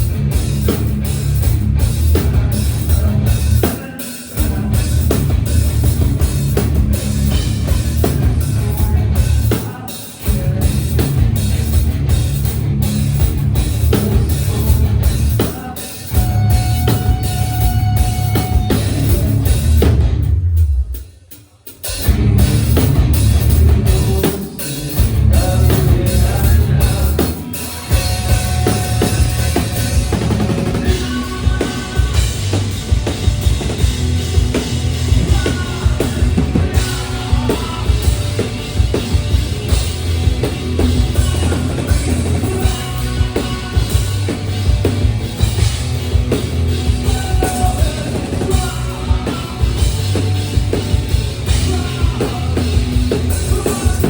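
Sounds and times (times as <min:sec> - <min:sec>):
heavy bass drum: 0:00.0 - 0:21.1, 0:21.9 - 0:54.0
live rock band playing: 0:00.0 - 0:54.0.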